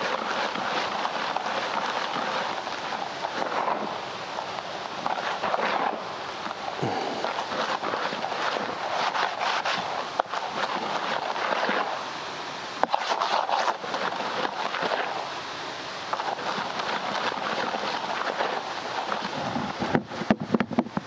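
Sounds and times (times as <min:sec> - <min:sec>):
hands mixing groundbait in basin: 0:00.0 - 0:12.0, 0:12.8 - 0:15.2, 0:16.1 - 0:19.4.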